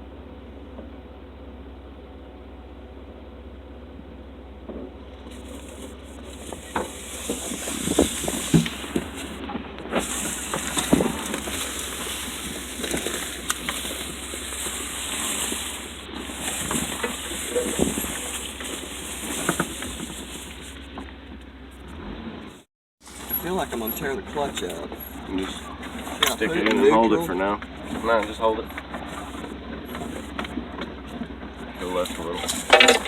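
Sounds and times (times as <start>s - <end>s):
low engine drone: 0.0s - 33.0s.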